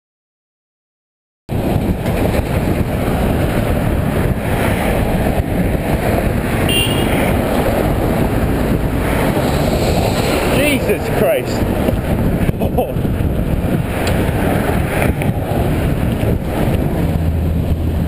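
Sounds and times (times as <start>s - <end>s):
road noise: 1.5s - 18.0s
wind buffeting microphone: 1.5s - 18.0s.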